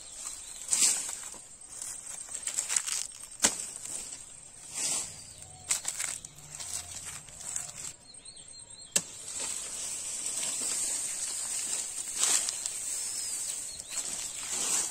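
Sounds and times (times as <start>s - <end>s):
dry leaves rustling underfoot: 0.0s - 8.0s, 9.1s - 14.9s.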